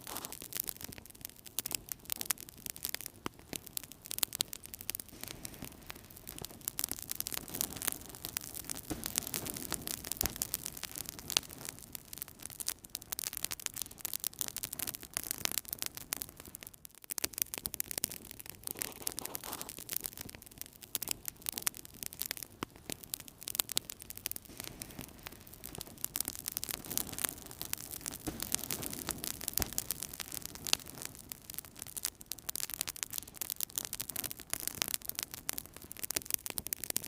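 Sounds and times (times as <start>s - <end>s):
flames rushing: 0.0s - 13.9s, 17.5s - 20.4s, 21.0s - 37.0s
wood fire crackling: 0.0s - 37.0s.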